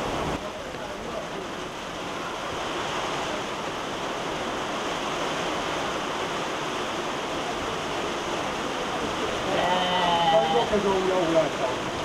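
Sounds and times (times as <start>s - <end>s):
storm wind and rain rushing: 0.0s - 12.0s.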